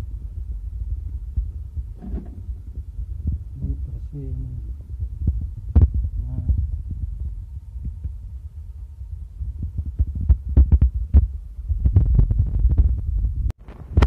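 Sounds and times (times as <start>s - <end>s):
low handling rumble: 0.0s - 14.0s.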